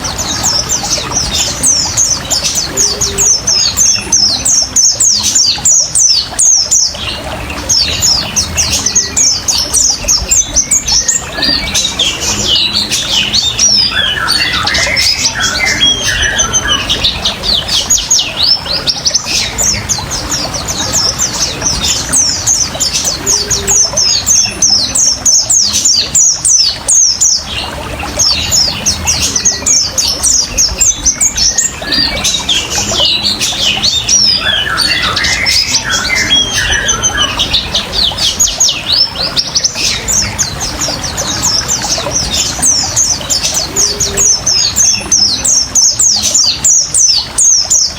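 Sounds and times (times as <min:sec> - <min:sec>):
bird singing fast chirps: 0:00.0 - 0:47.9
running water trickling: 0:00.0 - 0:47.9.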